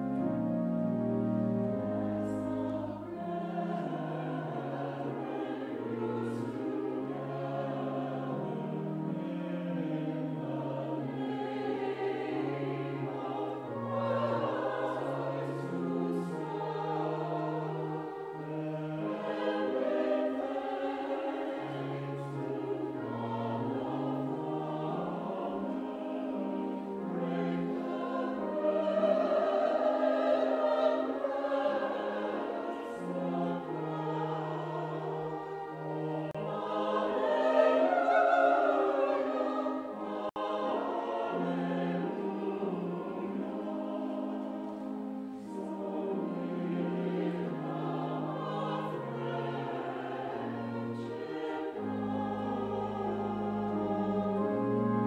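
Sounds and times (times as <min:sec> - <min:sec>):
choir singing: 0:00.0 - 0:55.0
keyboard accompaniment: 0:00.0 - 0:55.0.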